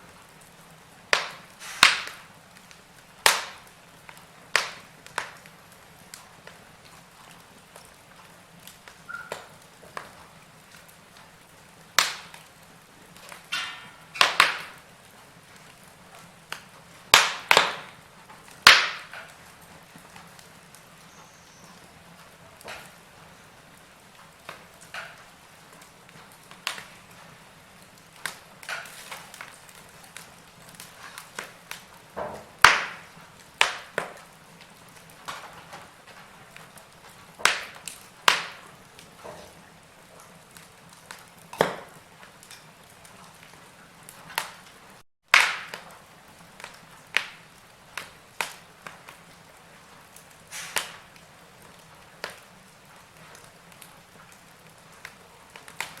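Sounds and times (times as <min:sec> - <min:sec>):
logs crackling and popping: 0:00.0 - 0:56.0
soft fire hiss: 0:00.0 - 0:56.0.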